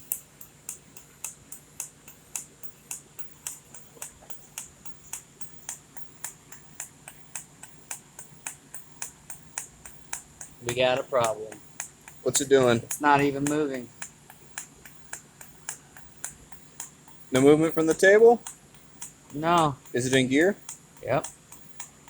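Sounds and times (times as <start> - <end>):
faint high whine: 0.0 - 22.0
low steady hum: 0.0 - 22.0
sharp even ticking: 0.0 - 22.0.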